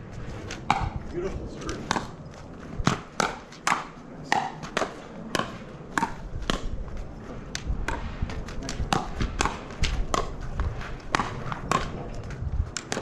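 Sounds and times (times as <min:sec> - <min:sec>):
paddles hitting plastic ball: 0:01.6 - 0:13.0.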